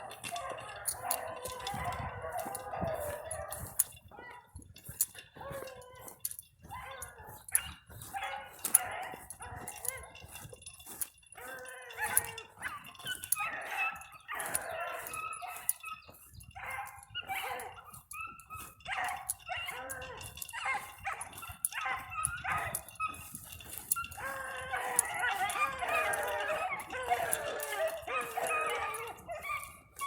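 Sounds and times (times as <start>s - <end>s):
dogs barking: 0.0s - 30.0s.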